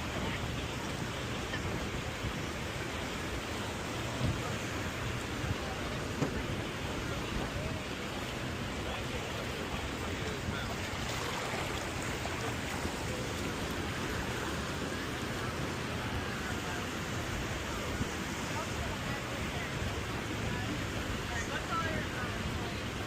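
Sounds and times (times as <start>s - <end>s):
ocean surf: 0.0s - 23.0s.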